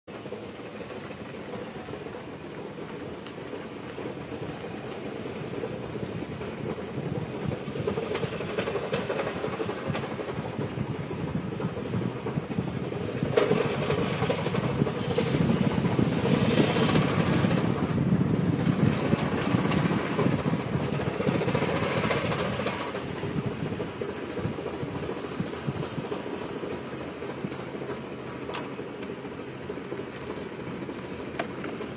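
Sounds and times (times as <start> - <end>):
vehicle running and road noise: 0.0 - 31.9
rapid tapping clatter: 0.1 - 31.9.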